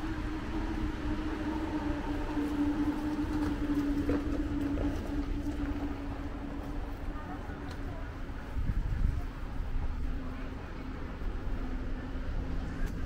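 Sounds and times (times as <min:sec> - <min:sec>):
low engine rumble: 0:00.0 - 0:13.0
vehicle engine droning: 0:00.0 - 0:13.0.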